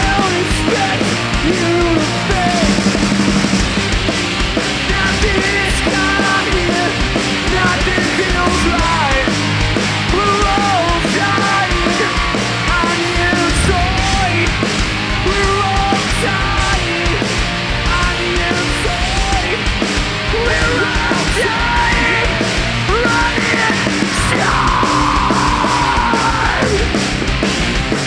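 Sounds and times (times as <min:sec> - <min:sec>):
bass guitar: 0:00.0 - 0:28.0
drums: 0:00.0 - 0:28.0
electric guitar: 0:00.0 - 0:28.0.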